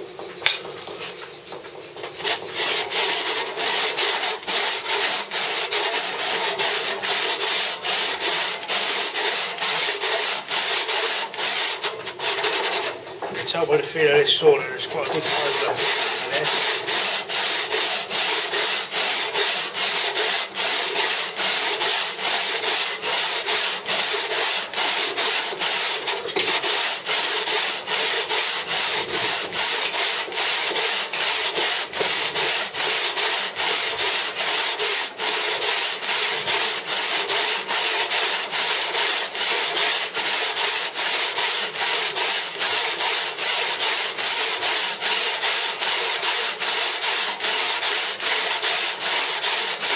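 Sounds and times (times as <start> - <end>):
hand saw rasping through stone: 1.9 - 49.9.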